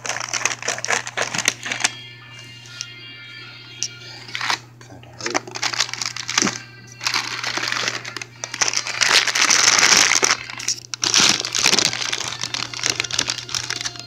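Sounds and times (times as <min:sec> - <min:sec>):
plastic bag crinkling: 0:00.0 - 0:02.8, 0:05.2 - 0:14.0.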